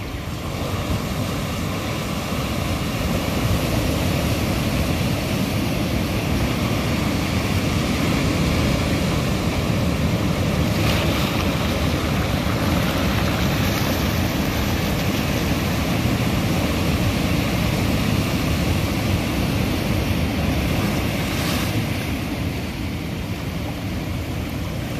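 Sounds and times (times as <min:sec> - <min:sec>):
ocean surf breaking on rocks: 0:00.0 - 0:24.9.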